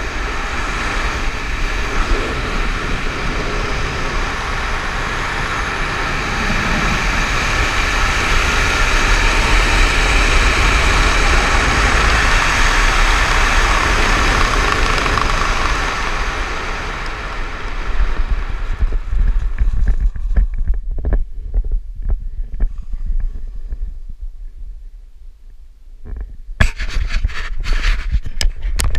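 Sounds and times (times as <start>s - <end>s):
wind rushing over microphone: 0.0s - 28.9s.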